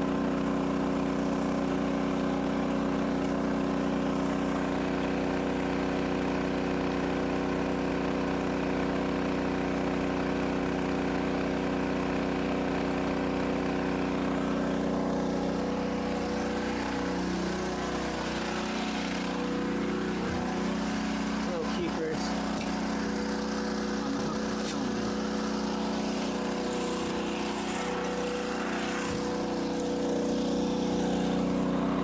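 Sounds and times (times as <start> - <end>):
engine humming steadily: 0.0 - 32.0.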